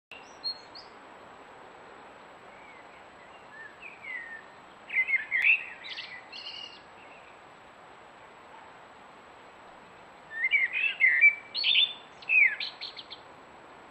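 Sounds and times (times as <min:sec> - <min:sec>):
wild birds singing: 0:00.1 - 0:01.1, 0:02.0 - 0:07.7, 0:09.3 - 0:13.9
steady background hiss: 0:00.1 - 0:13.9.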